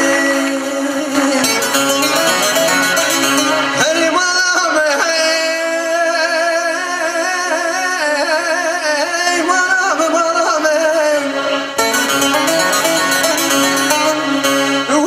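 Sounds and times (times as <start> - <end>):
lute and keyboard accompaniment: 0.0 - 15.0
man singing with vibrato: 0.0 - 15.0.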